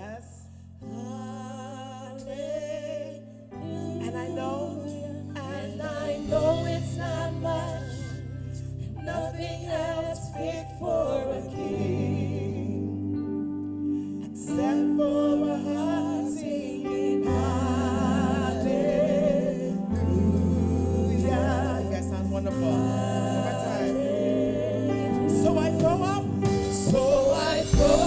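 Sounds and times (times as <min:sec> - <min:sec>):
voices singing with vibrato: 0:01.4 - 0:13.2, 0:14.4 - 0:28.0
held low chords: 0:03.4 - 0:28.0.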